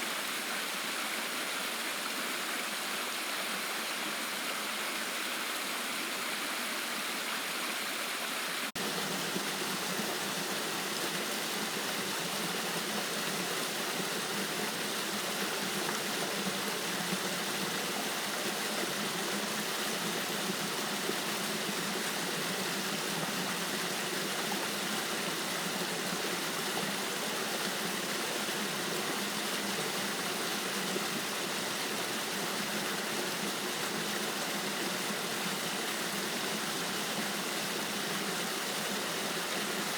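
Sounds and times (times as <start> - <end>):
creek water rushing over waterfalls: 0.0 - 39.9.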